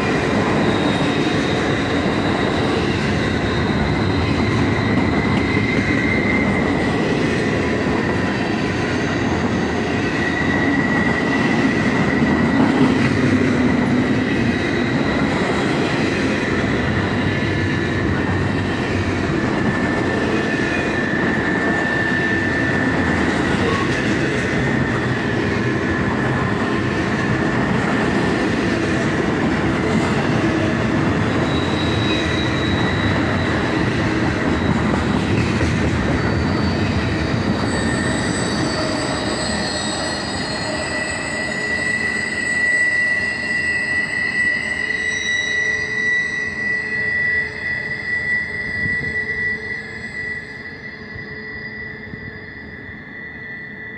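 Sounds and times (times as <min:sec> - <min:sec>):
freight train wheels rumbling: 0:00.0 - 0:53.9
high wheel squeal: 0:00.0 - 0:53.9.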